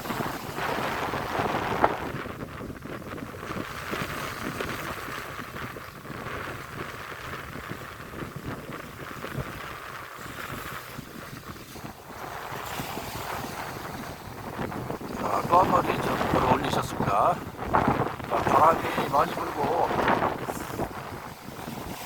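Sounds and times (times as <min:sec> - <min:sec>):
sea noise: 0:00.0 - 0:22.0
wind buffeting microphone: 0:00.0 - 0:22.0.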